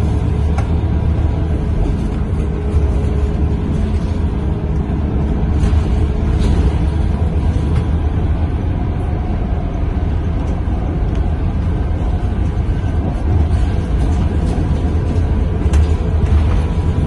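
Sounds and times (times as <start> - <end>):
bus diesel engine rumbling: 0.0 - 17.0
road noise: 0.0 - 17.0.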